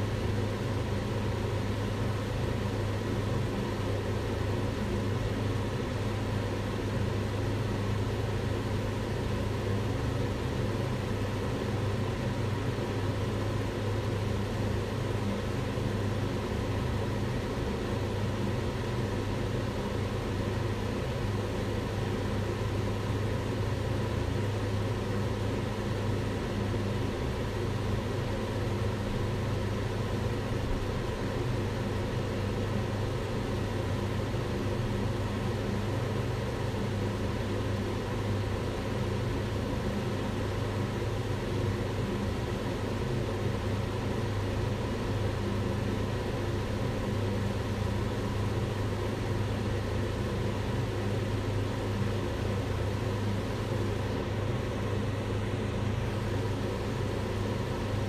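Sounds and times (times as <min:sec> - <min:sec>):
range hood fan running: 0:00.0 - 0:58.0.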